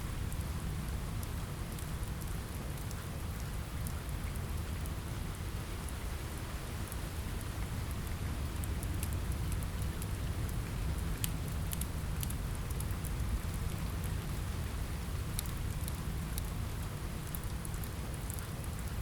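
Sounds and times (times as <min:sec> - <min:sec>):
rain on a window: 0:00.0 - 0:19.0
log fire crackling: 0:00.2 - 0:19.0.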